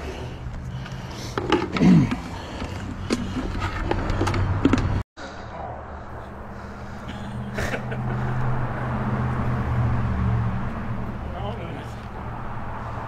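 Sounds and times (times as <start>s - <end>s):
low traffic hum: 0.0s - 13.0s.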